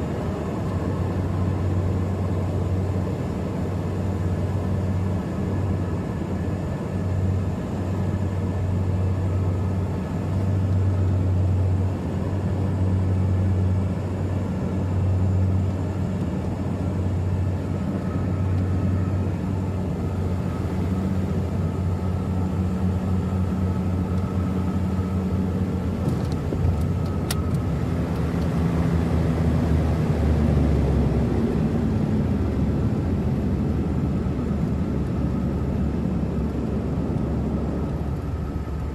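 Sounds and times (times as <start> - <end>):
turboprop cabin drone: 0.0 - 38.9.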